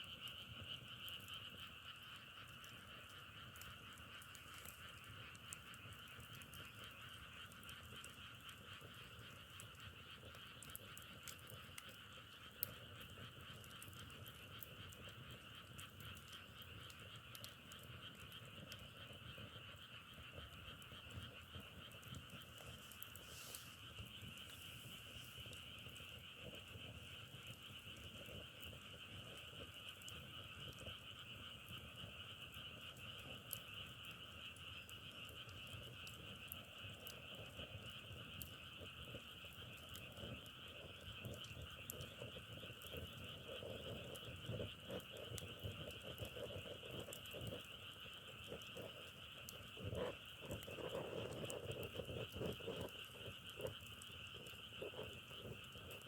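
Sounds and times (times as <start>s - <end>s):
firewood crackling and popping: 0.0s - 56.0s
frogs calling: 0.0s - 56.0s.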